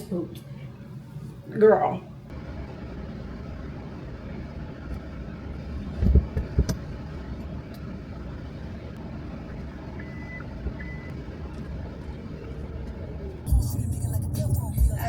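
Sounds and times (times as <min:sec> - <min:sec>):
steady low rumble: 0:02.1 - 0:15.0.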